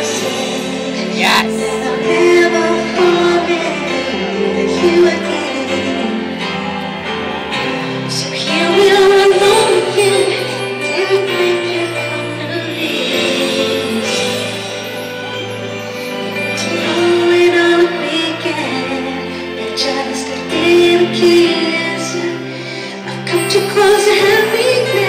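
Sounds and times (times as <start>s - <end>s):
band playing slow ballad: 0.0s - 25.0s.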